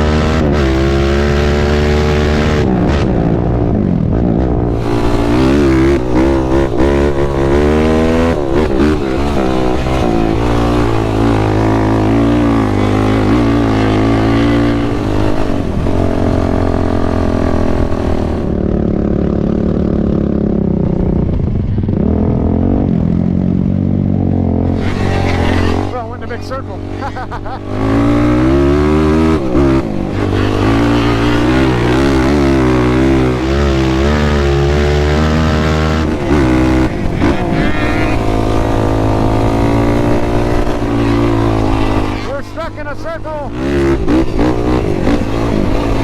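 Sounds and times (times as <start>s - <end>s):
quad bike engine revving: 0.0s - 46.0s.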